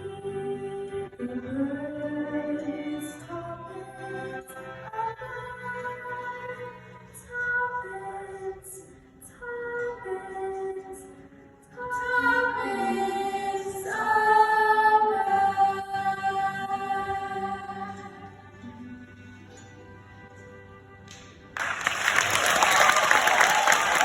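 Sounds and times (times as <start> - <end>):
slow singing with held notes: 0.0 - 21.1.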